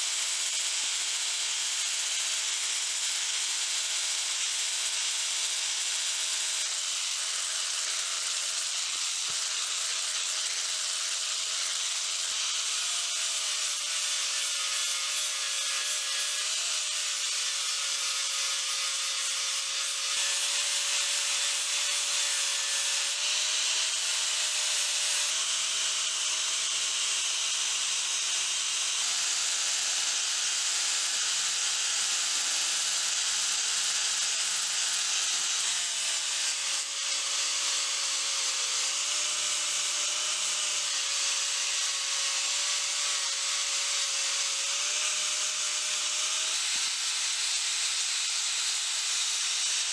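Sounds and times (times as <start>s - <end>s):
angle grinder grinding metal: 0.0s - 49.9s.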